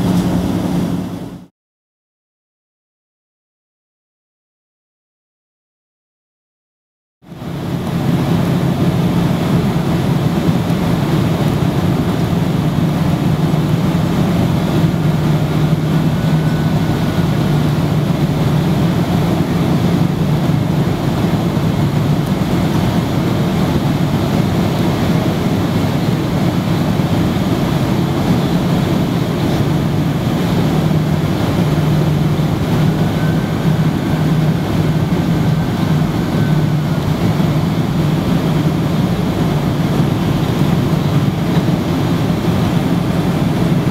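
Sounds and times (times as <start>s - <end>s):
airplane cabin engine drone: 0.0s - 1.5s, 7.3s - 43.9s
rushing air: 0.0s - 1.5s, 7.3s - 43.9s.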